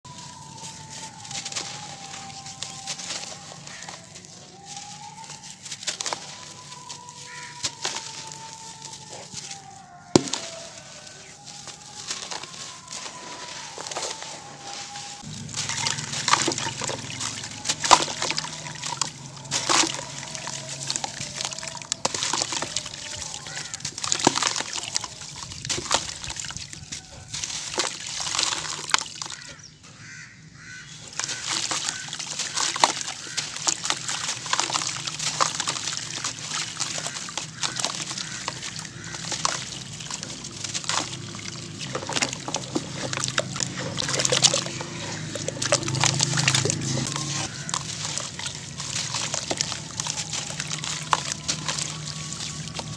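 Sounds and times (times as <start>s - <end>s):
lumps splashing into water: 0.1s - 9.5s, 10.1s - 29.6s, 31.0s - 52.9s
blocks crunching and crumbling: 0.1s - 29.6s, 31.0s - 52.9s.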